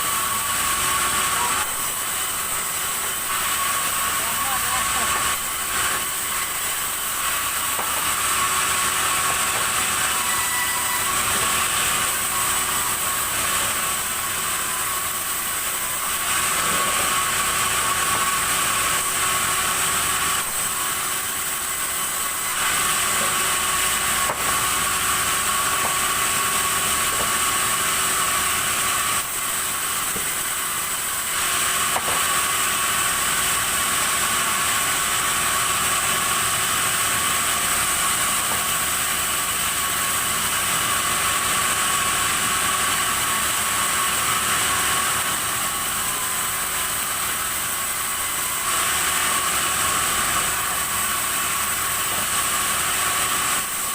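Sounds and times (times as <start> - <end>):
sawmill saw cutting wood: 0.0 - 53.9.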